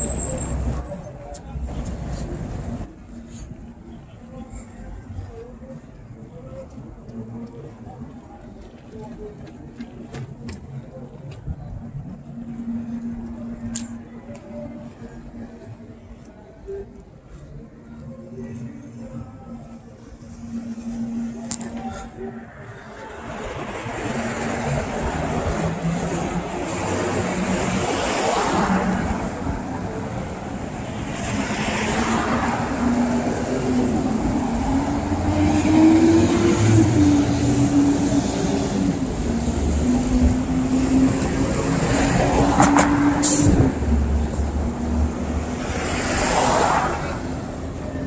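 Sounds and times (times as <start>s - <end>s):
steady vehicle hum: 0.0s - 48.0s
vehicles passing: 0.0s - 48.0s.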